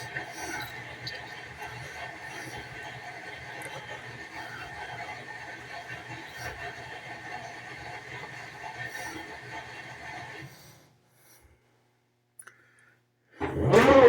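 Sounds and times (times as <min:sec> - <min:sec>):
washing machine whirring and grinding: 0:00.0 - 0:10.9, 0:13.4 - 0:14.0.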